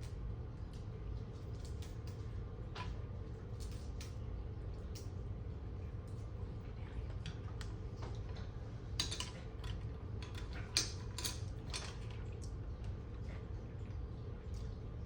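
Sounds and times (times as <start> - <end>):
shellfish eating clicks and crackles: 0.0 - 15.0
steady low hum: 0.0 - 15.0.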